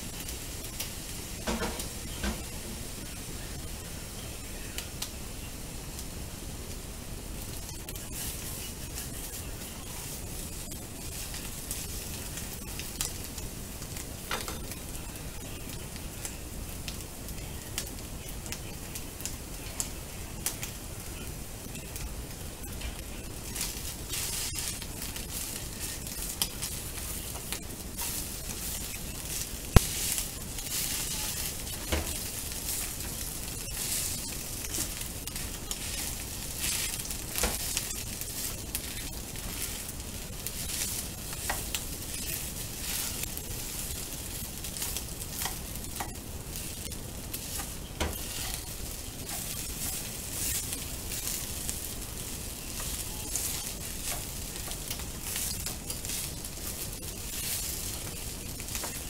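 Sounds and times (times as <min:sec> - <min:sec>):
egg and rice sizzling in pan: 0:00.0 - 0:59.0.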